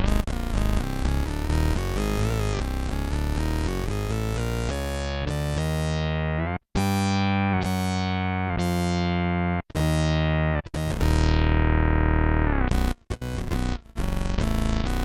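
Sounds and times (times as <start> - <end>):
synth bass notes: 0.0 - 15.0.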